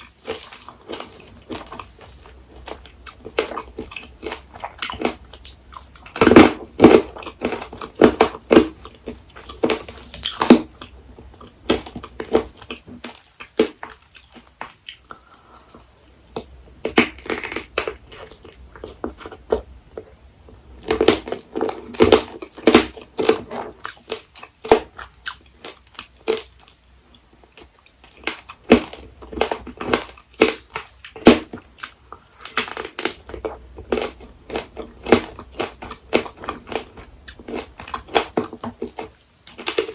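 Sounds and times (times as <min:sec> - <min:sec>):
candy shell crunching: 0:00.0 - 0:26.8, 0:27.4 - 0:39.9.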